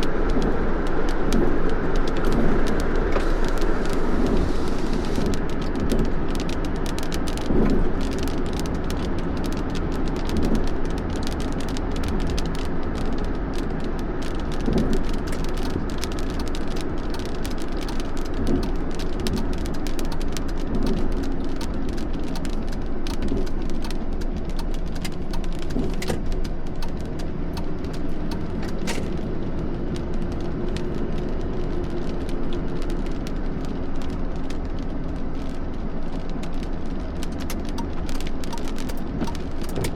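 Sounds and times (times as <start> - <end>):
raindrops pattering: 0.0 - 39.9
wind: 0.0 - 39.9.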